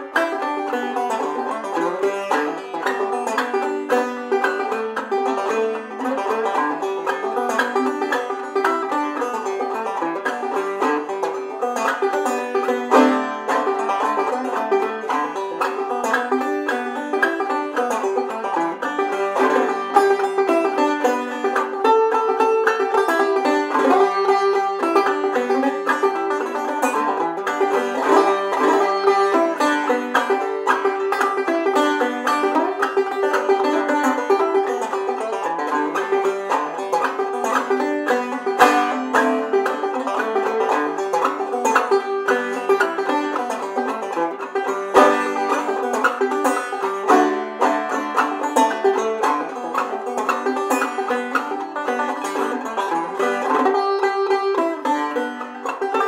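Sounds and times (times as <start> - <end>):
banjo playing old-time tune: 0.0 - 56.0.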